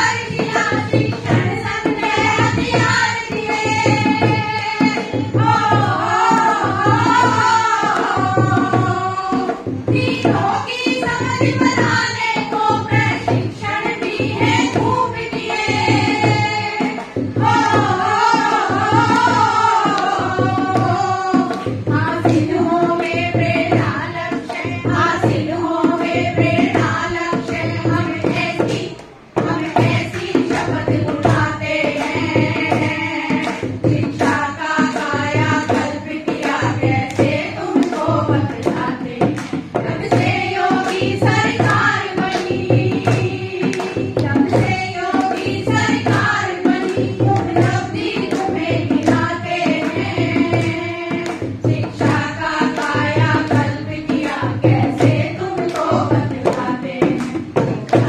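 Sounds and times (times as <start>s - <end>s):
hand drum beat: 0.0s - 58.0s
women singing together: 0.0s - 58.0s.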